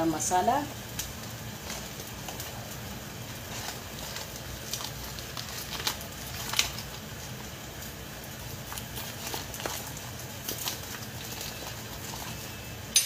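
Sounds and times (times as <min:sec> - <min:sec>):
curry sputtering in oil: 0:00.7 - 0:12.9.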